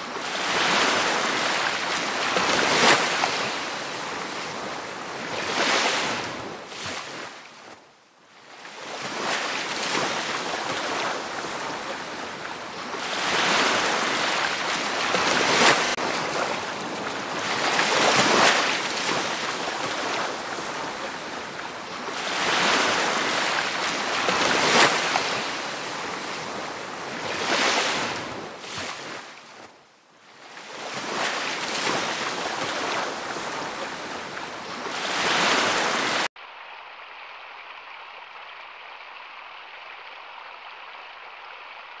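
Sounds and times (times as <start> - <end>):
ocean waves washing on shore: 0.0 - 42.0.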